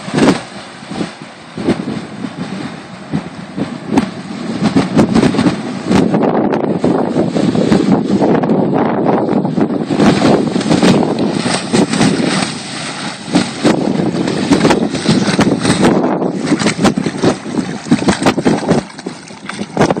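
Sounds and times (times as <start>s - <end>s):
outboard motor running: 0.0s - 20.0s
wind buffeting microphone: 0.0s - 20.0s.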